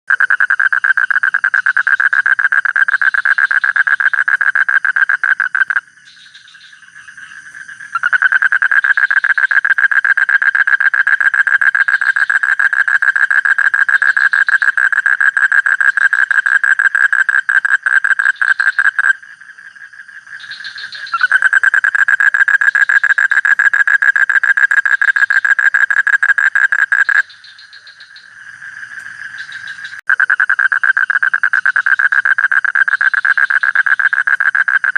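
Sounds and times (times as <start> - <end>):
frog calling in fast trills: 0.1 - 19.2, 20.2 - 34.9
fainter frog calls: 0.1 - 34.9.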